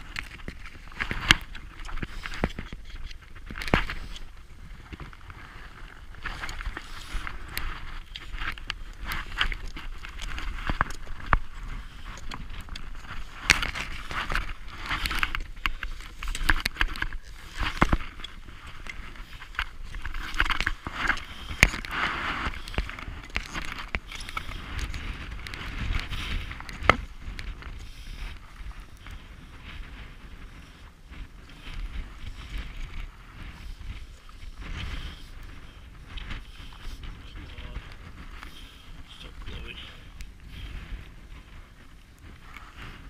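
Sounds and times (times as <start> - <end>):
crampons scraping on rock and snow: 0.0 - 39.7
wind rumbling on microphone: 0.0 - 43.0.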